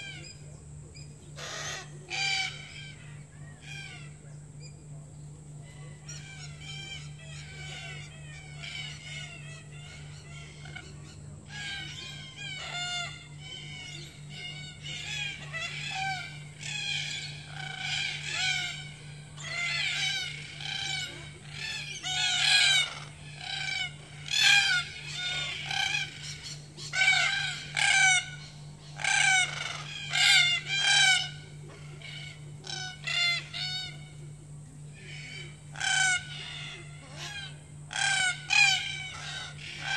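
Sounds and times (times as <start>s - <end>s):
cockatoos harsh calls: 0.0s - 39.9s.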